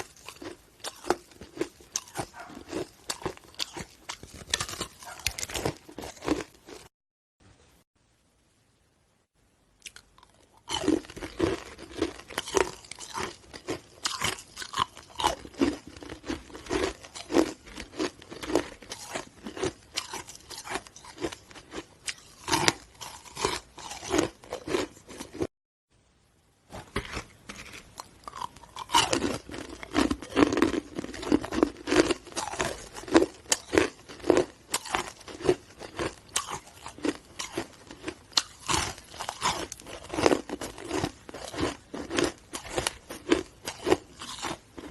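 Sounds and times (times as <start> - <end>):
person crunching hard ice: 0.0 - 6.9, 10.2 - 25.5, 26.8 - 44.9.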